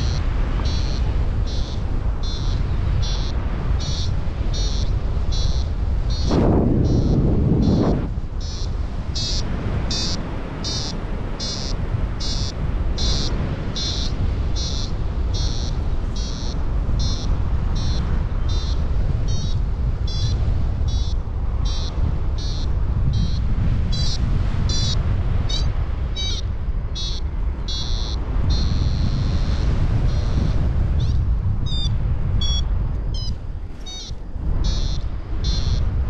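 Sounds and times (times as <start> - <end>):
short high beeps: 0.0 - 20.3, 27.0 - 35.8
wind on microphone: 0.0 - 36.0.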